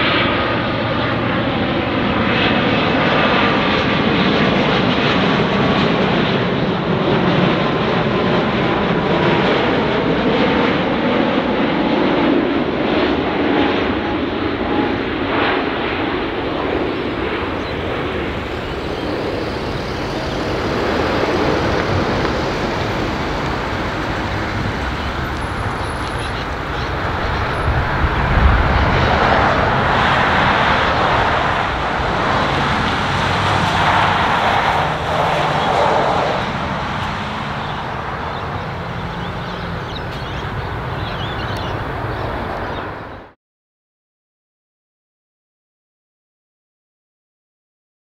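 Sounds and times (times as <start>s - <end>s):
jet engines rushing: 0.0s - 43.4s.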